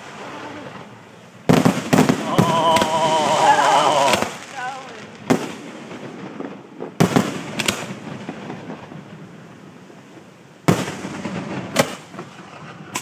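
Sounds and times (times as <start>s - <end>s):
firework bangs: 0.0s - 13.0s
firework rumble: 0.0s - 13.0s.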